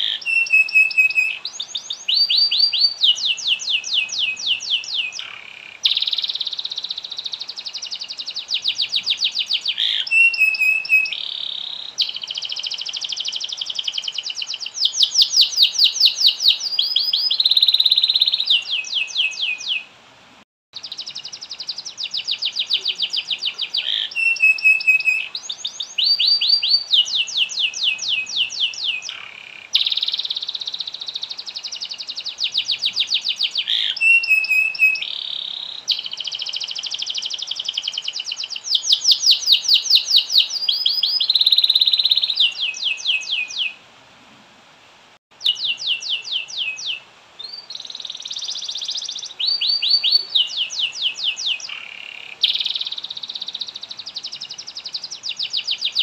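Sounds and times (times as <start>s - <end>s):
canary singing trills: 0.0s - 19.9s, 20.8s - 43.8s, 45.3s - 56.0s.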